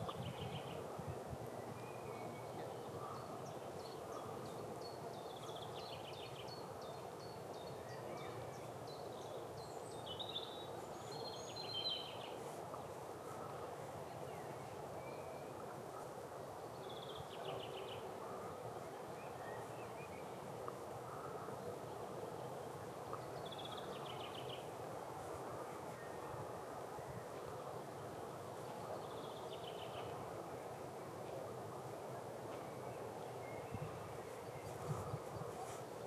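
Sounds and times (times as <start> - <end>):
low background noise: 0.0 - 36.0
songbirds trilling: 0.0 - 36.0.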